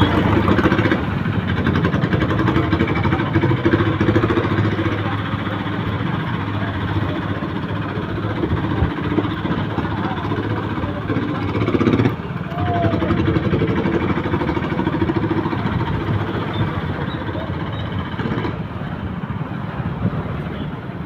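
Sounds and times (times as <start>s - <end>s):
motorcycle engine running: 0.0s - 20.4s
town traffic: 0.0s - 21.0s.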